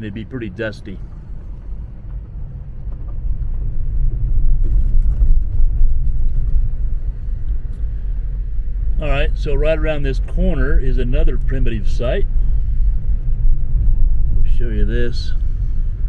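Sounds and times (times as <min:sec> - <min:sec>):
car driving on gravel road: 0:00.0 - 0:16.0.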